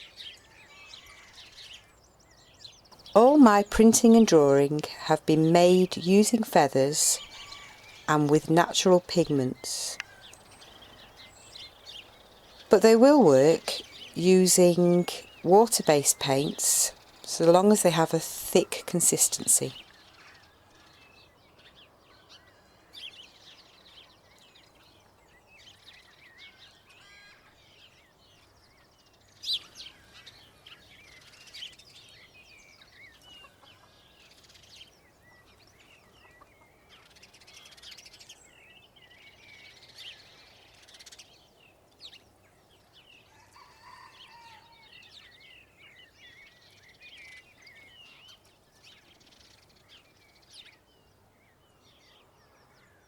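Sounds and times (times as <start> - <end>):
small birds chirping and trilling: 0.0 - 53.0.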